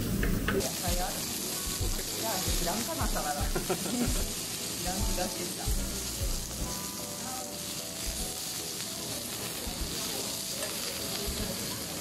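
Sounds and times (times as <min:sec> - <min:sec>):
pork sizzling on a grill plate: 0:00.0 - 0:12.0.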